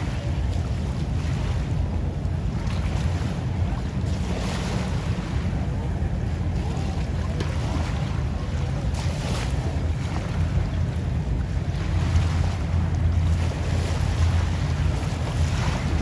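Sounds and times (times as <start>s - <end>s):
boat wake washing: 0.0s - 16.0s
motorboats rumbling: 0.0s - 16.0s
wind buffeting microphone: 0.0s - 16.0s.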